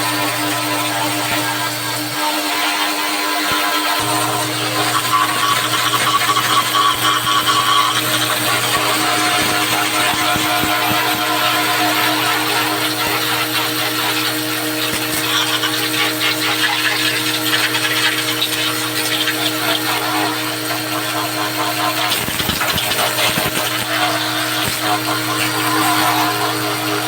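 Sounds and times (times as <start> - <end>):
motor-driven machine humming: 0.0 - 27.0.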